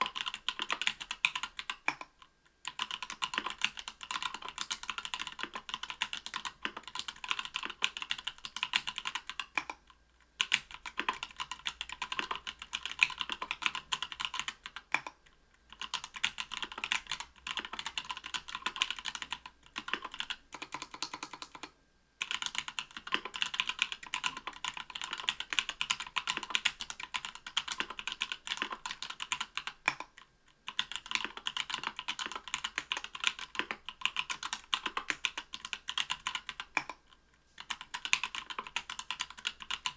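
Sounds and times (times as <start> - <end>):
fast typing on mechanical keyboard: 0.0 - 9.8, 10.4 - 39.9.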